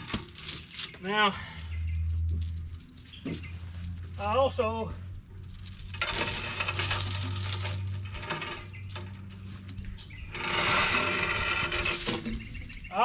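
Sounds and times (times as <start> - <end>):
steel chain clinking and rattling: 0.0 - 13.0.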